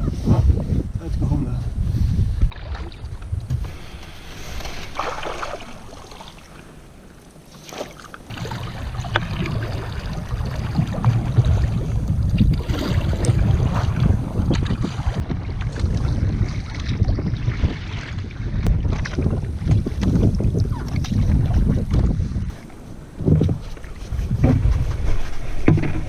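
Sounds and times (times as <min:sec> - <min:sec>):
wind buffeting microphone: 0:00.0 - 0:07.1, 0:08.2 - 0:26.0
paddle strokes splashing: 0:02.5 - 0:26.0.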